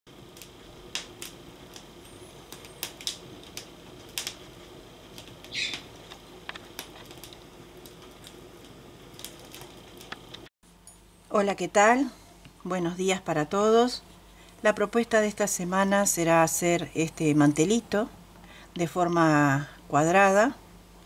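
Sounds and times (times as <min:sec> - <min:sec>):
faint steady hum: 0:00.1 - 0:21.0.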